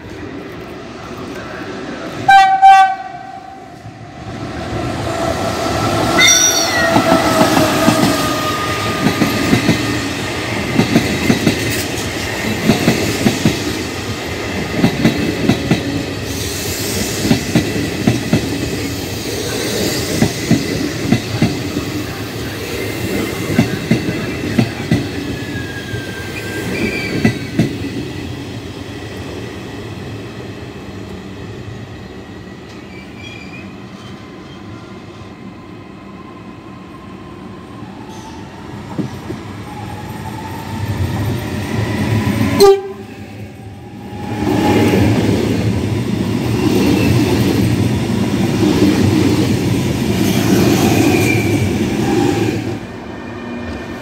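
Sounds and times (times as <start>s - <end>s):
train passing close by: 0.0s - 54.0s.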